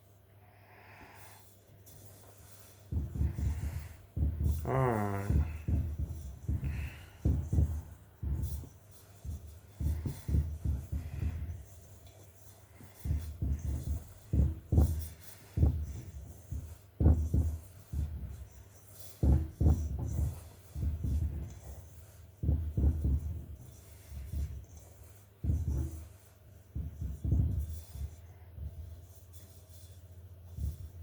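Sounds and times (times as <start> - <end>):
hands rubbing dough in bowl: 1.6 - 31.0.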